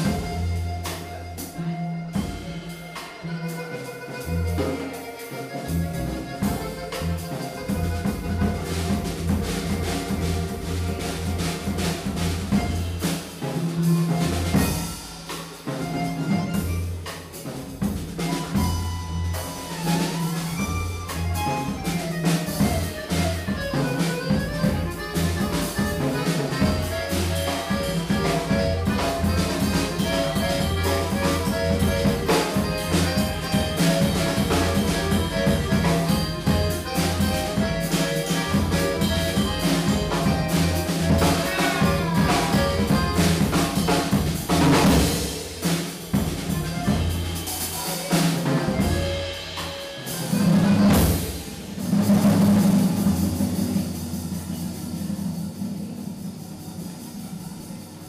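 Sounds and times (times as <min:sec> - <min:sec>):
accordion: 0:00.0 - 0:55.1
busy drumming: 0:00.0 - 0:58.0
double bass notes: 0:00.0 - 0:58.0.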